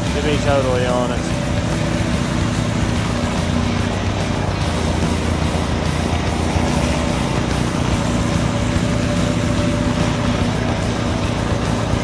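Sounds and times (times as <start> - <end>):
high-pressure water spraying: 0.0 - 12.0
pressure washer engine running: 0.0 - 12.0.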